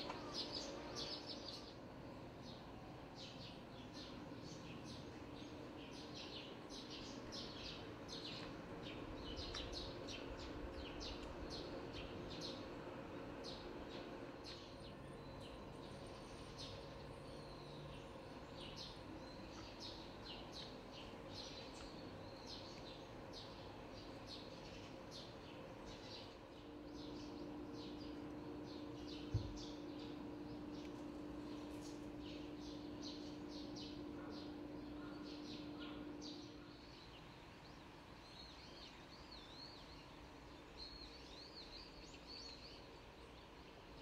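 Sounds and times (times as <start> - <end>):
low steady background hum: 0.0 - 44.0
small birds chirping: 0.0 - 44.0.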